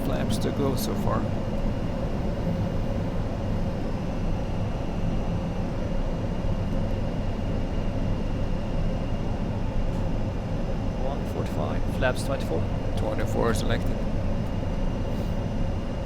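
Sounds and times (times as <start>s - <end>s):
aircraft engines and airflow rumble: 0.0s - 16.0s
faint high whine: 0.0s - 16.0s.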